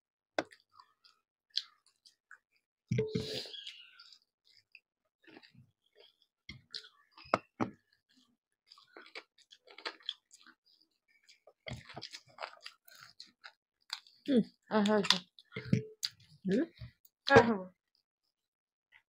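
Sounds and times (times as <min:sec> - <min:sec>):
people chewing: 0:00.4 - 0:17.1.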